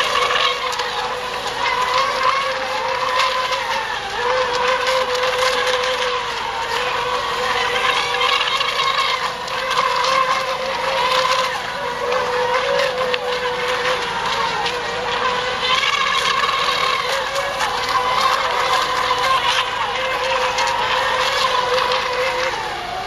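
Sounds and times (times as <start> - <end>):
rc boat electric motors whining: 0.0 - 23.0.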